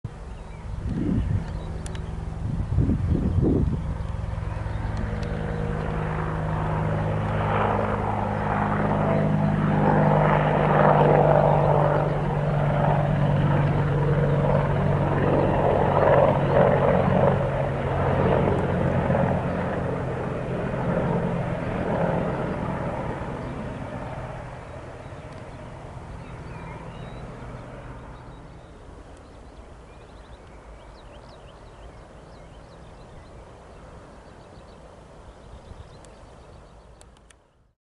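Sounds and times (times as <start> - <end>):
military helicopter flying past: 0.1 - 37.7.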